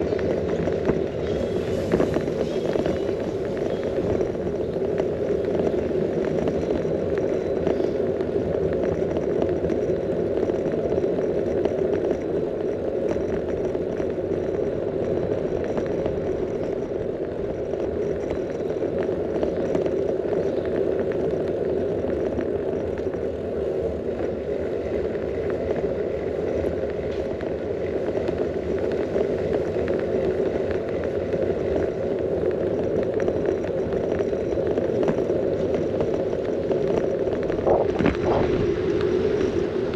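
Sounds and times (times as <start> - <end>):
bicycle tyres rolling on asphalt: 0.0 - 39.9
bike rattling: 0.0 - 39.9.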